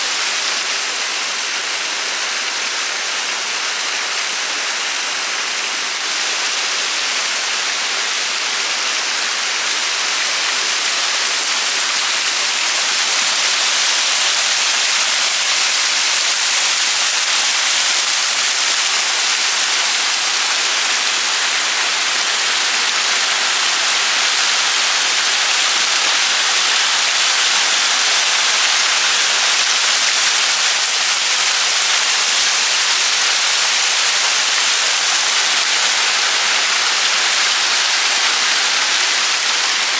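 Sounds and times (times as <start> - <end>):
falling water hiss: 0.0 - 39.9.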